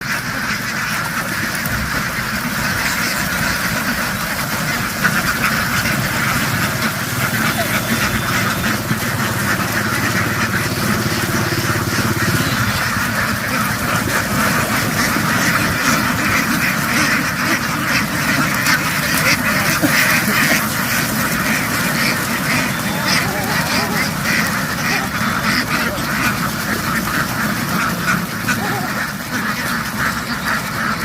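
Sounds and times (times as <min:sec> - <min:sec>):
ducks quacking: 0:00.0 - 0:31.0.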